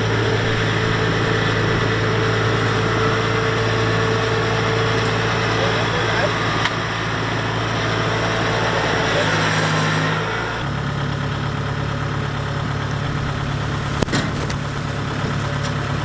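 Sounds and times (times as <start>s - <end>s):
harvester diesel engine running: 0.0s - 16.0s.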